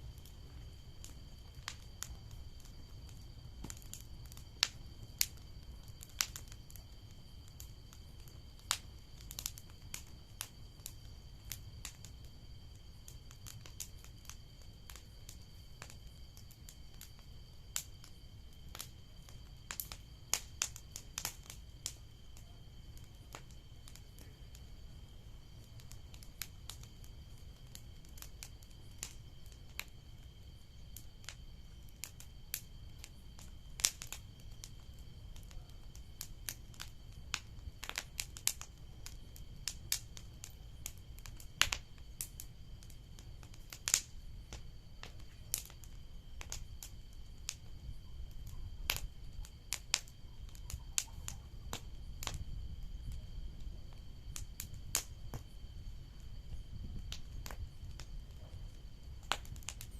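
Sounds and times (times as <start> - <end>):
bonfire crackling and popping: 0.0 - 59.9.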